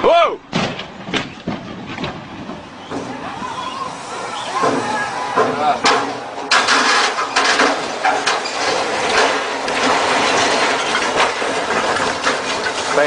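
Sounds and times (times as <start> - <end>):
loud crash: 0.5 - 13.0
metal bangs and clattering knocks: 0.5 - 13.0.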